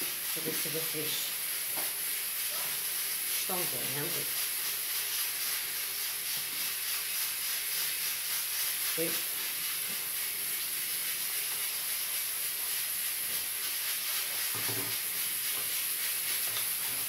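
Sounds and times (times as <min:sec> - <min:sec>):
high-pitched background hiss: 0:00.0 - 0:17.0.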